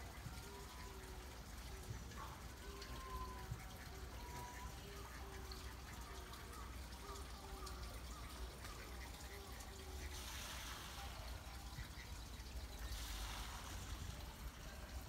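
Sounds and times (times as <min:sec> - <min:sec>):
faint water trickling: 0:00.0 - 0:15.0.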